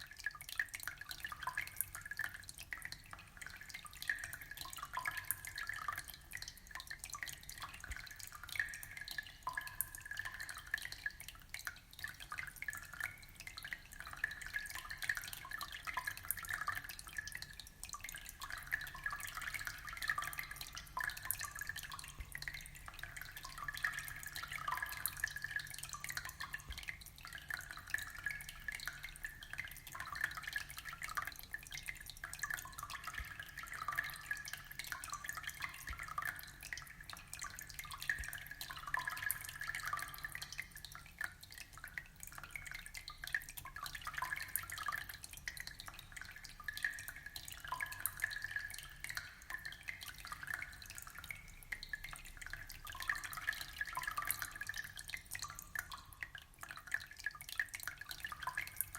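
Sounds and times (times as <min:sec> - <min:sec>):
aquarium water trickling and bubbling: 0:00.0 - 0:58.9.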